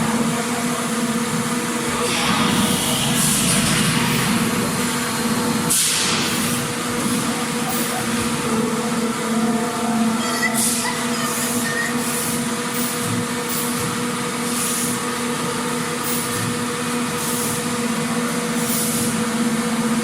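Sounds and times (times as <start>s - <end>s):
factory machinery hum: 0.0s - 20.0s.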